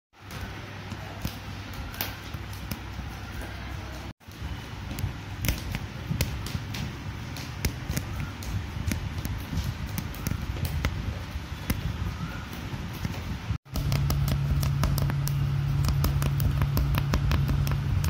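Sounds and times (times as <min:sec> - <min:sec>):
steady low hum: 0:00.2 - 0:18.0.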